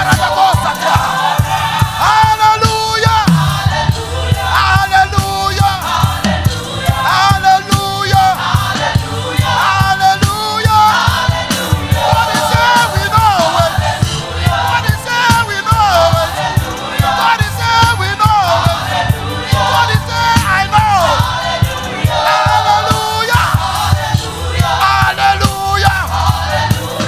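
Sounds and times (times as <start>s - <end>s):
drum beats: 0.0s - 27.0s
gospel choir singing: 0.0s - 27.0s
heavy bass: 0.0s - 27.0s.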